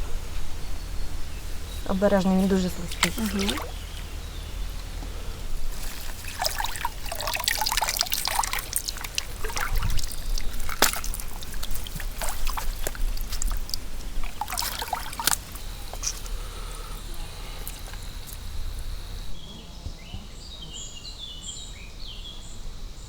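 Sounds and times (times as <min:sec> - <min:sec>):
water splashing and trickling: 0:00.1 - 0:19.4.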